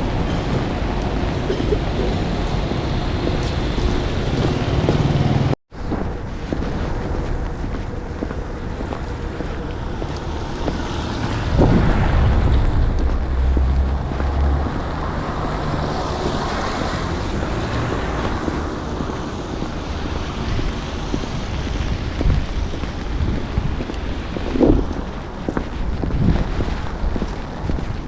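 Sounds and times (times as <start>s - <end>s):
low rumble: 0.0s - 28.0s
rushing street noise: 0.0s - 28.0s.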